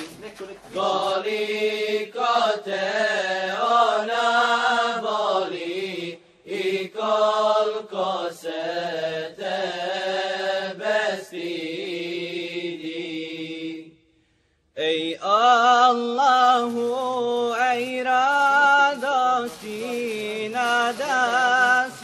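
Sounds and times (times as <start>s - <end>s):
voices singing wordless melody: 0.0s - 22.0s.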